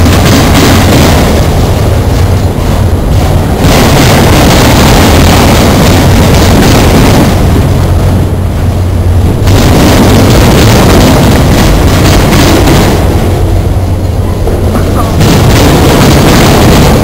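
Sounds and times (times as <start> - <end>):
freight train wheels rumbling on rails: 0.0 - 17.0.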